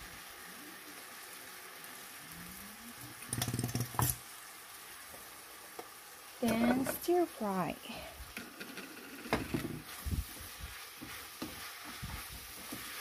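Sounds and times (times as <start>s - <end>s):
fish cake sizzling in a frying pan: 0.0s - 13.0s.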